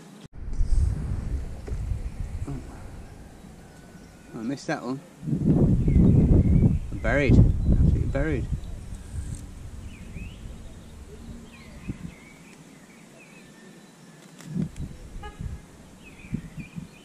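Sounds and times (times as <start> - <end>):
wind buffeting microphone: 0.3 - 12.6, 14.4 - 17.0
faint bird chirps: 1.2 - 5.1, 5.7 - 17.0.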